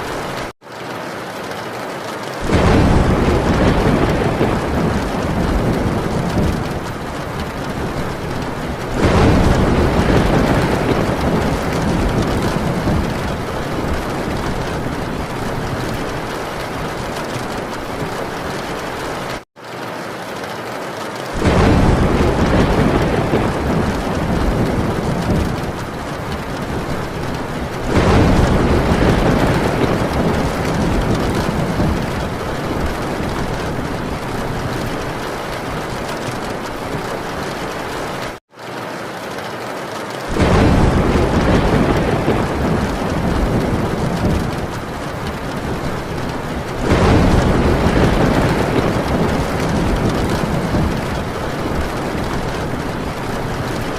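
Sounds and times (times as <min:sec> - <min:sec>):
heavy rain on a tin roof: 0:00.0 - 0:53.9
thunder rolling: 0:02.4 - 0:19.4, 0:21.4 - 0:38.4, 0:40.3 - 0:53.9.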